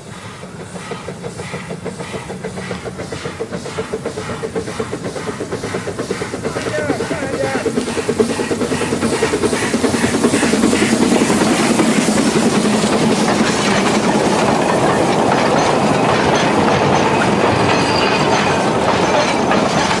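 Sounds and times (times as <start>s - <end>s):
steam locomotive exhaust beat: 0.0s - 20.0s
train wheels clattering over rail joints: 0.0s - 20.0s.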